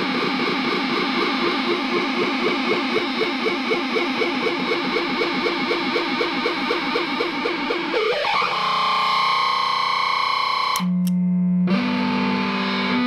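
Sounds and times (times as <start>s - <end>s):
distorted looping electronic chirps: 0.0s - 10.8s.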